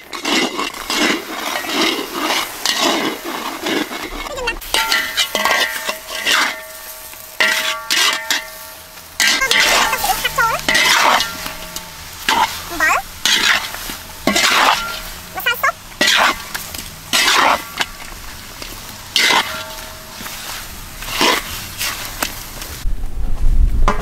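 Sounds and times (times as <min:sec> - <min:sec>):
metal spatula scraping wok: 0:00.0 - 0:22.8
food sizzling: 0:00.0 - 0:22.9.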